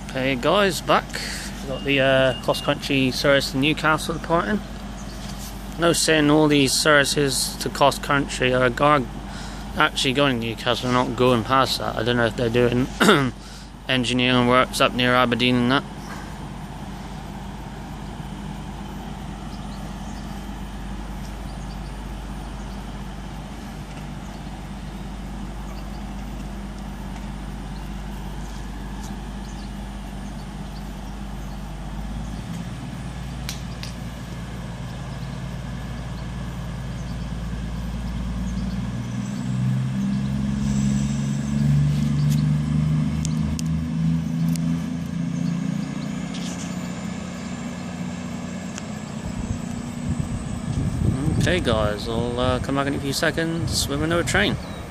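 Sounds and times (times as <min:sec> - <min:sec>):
train diesel engines humming: 0:00.0 - 0:54.9.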